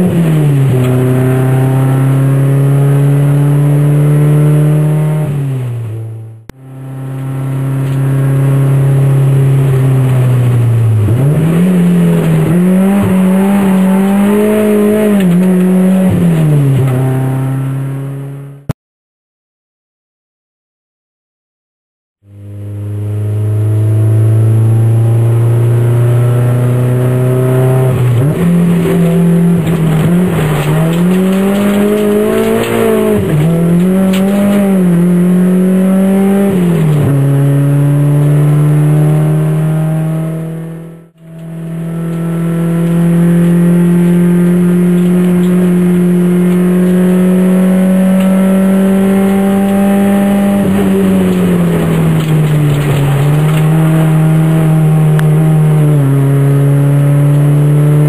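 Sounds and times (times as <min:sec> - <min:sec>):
car engine from inside cabin: 0:00.0 - 0:18.6, 0:22.2 - 0:58.0.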